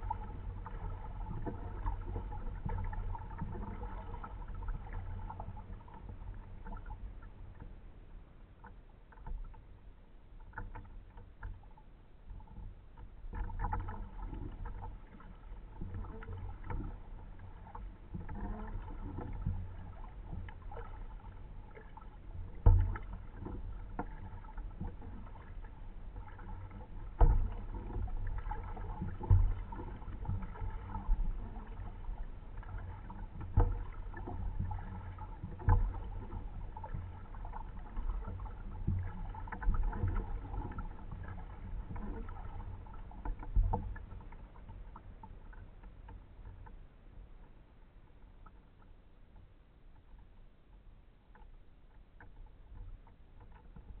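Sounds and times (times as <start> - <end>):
paddle knock or splash: 0.0 - 7.7, 10.4 - 47.6
water lapping against kayak hull: 0.0 - 54.0.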